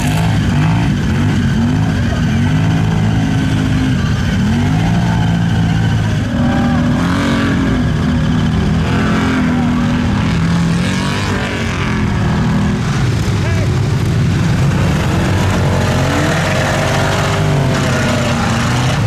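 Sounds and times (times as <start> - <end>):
off-road vehicle engines revving: 0.0 - 19.0.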